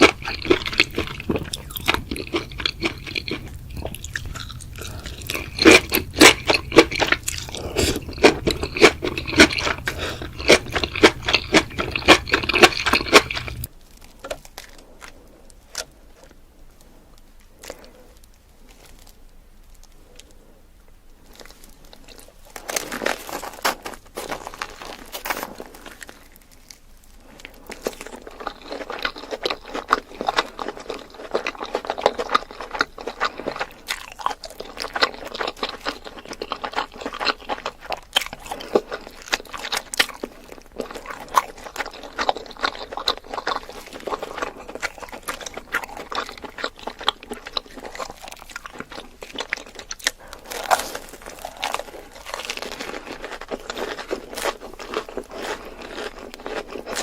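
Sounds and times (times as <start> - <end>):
crunchy chewing: 0.0 - 20.6, 21.2 - 57.0.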